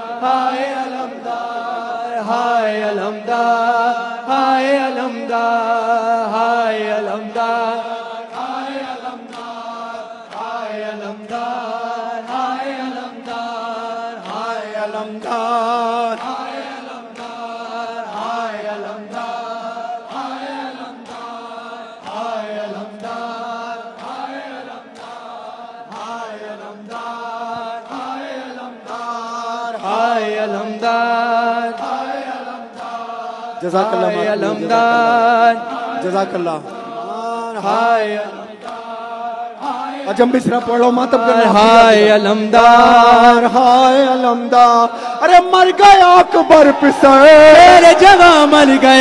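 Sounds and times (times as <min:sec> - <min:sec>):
men chanting in unison: 0:00.0 - 0:49.0.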